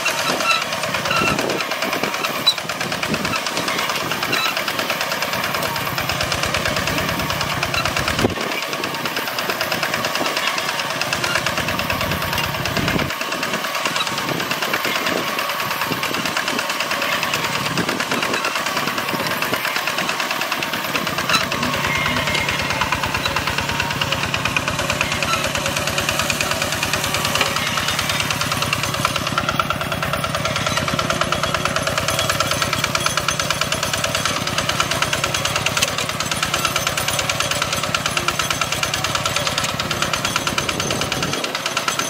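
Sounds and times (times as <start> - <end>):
old tractor engine running: 0.0 - 42.0.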